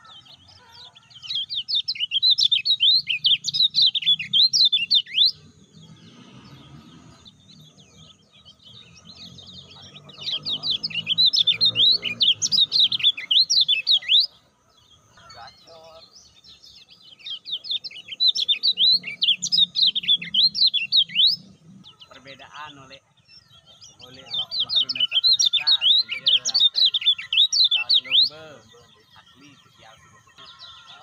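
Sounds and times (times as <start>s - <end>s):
bird chattering twitter: 0.0s - 31.0s.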